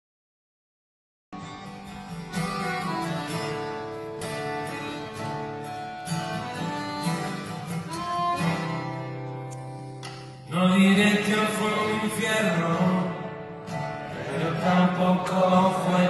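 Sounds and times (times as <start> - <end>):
accordion: 1.4 - 10.5, 11.1 - 16.0
acoustic guitar: 1.4 - 16.0.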